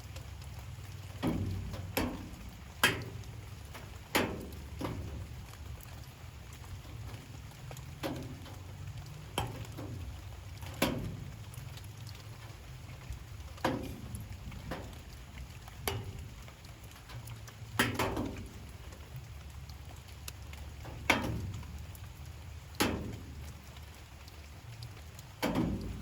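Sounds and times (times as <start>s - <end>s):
heavy drips tapping: 0.0s - 26.0s
light rain falling: 0.0s - 26.0s.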